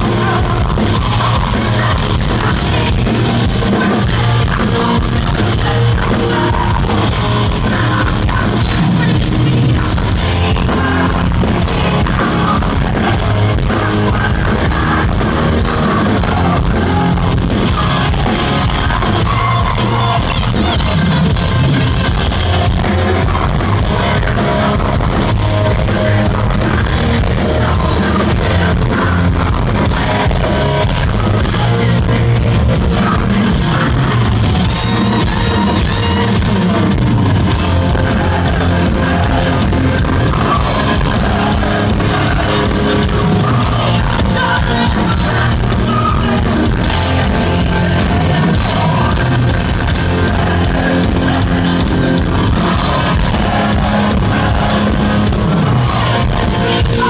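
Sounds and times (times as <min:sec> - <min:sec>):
heavy metal band playing: 0:00.0 - 0:57.0
man singing: 0:00.0 - 0:57.0.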